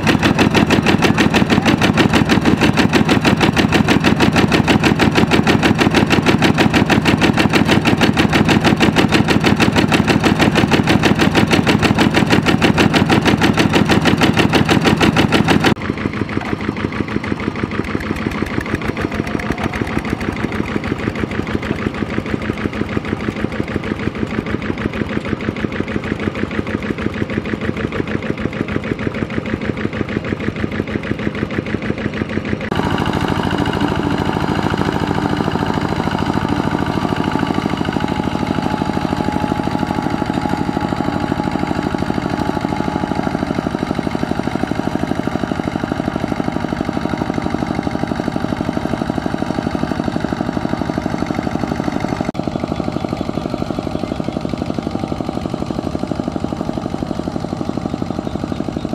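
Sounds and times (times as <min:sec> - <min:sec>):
diesel tractor engine chugging: 0:00.0 - 0:58.9.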